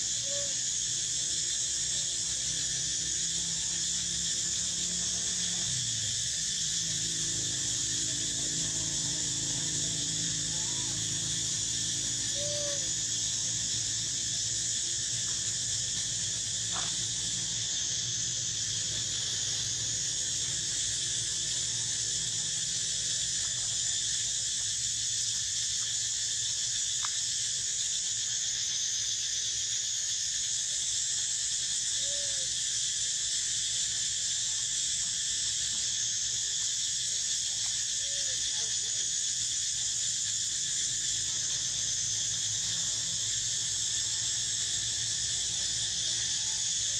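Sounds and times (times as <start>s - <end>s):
insects chorus drone: 0.0s - 46.9s.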